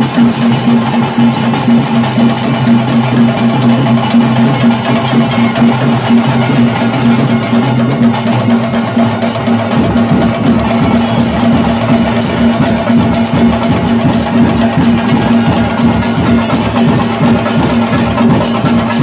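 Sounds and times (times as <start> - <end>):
fast dense drumming: 0.0 - 19.0.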